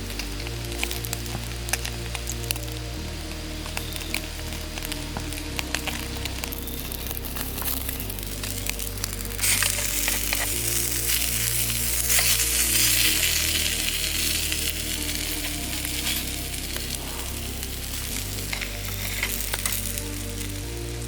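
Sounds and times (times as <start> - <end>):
background music with low notes: 0.0 - 21.0
food sizzling in a hot pan: 0.0 - 21.0.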